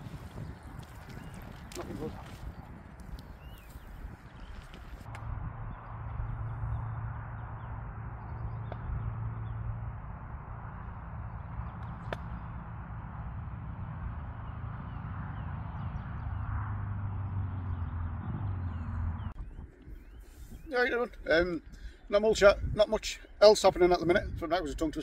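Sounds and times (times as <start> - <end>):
low rumble: 0.0 - 20.2.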